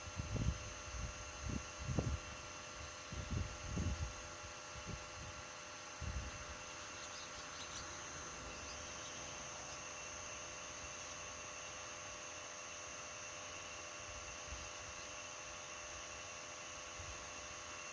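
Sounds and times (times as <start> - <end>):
heat pump humming: 0.0 - 17.9.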